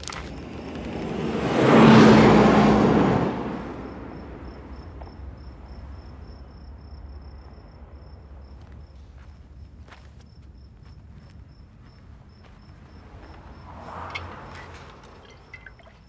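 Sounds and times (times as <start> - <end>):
bus passing by: 0.0 - 9.8, 11.7 - 16.0
crickets chirping: 0.0 - 16.0.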